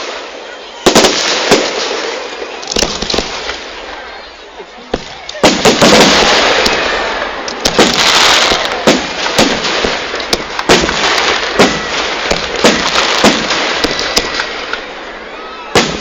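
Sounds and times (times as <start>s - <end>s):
fireworks bangs: 0.0s - 16.0s
fireworks crackling hiss: 0.0s - 16.0s.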